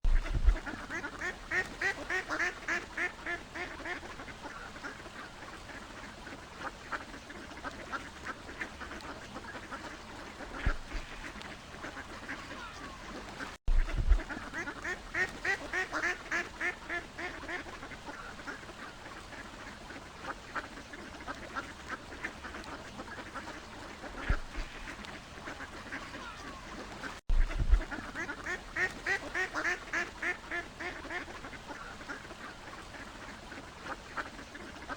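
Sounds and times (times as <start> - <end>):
ducks quacking: 0.1 - 34.9.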